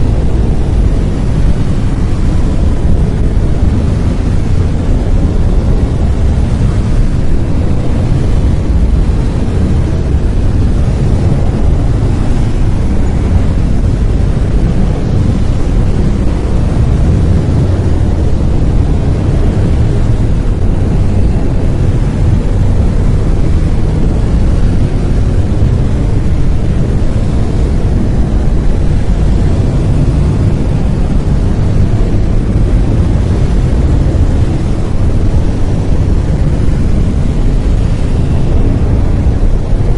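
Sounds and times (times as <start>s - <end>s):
deep steady hiss: 0.0s - 39.9s.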